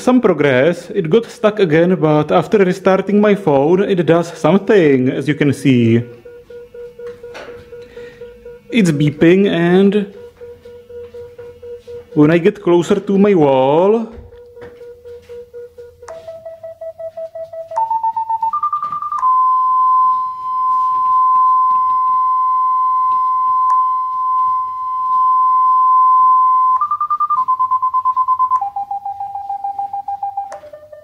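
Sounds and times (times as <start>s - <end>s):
continuous warning tone: 4.4s - 31.0s
parking sensor beeps: 5.2s - 31.0s.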